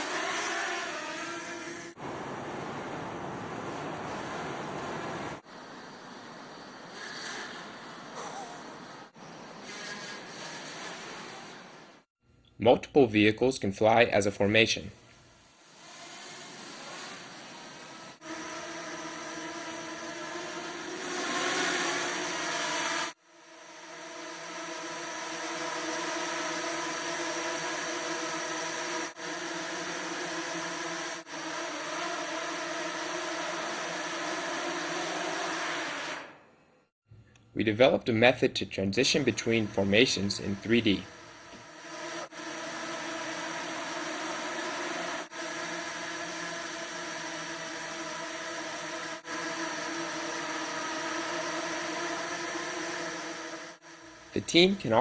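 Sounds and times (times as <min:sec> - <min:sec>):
buzz of many small rotors: 0:00.0 - 0:12.2, 0:13.8 - 0:55.0.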